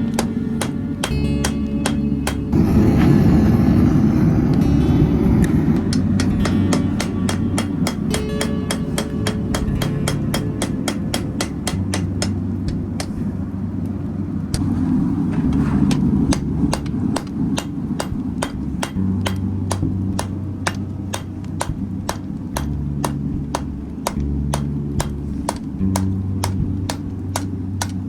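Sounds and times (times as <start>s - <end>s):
hammer striking steel on anvil: 0.0s - 2.9s, 4.6s - 13.2s, 15.5s - 28.0s
steady low rumble: 0.0s - 28.0s.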